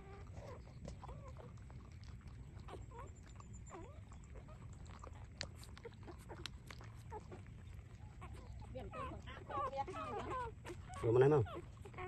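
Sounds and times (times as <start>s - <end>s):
puppies squeaking: 0.0s - 12.0s.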